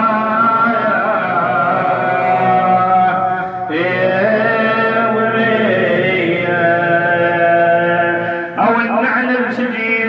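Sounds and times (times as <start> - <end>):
man singing long melismatic notes: 0.0 - 10.0.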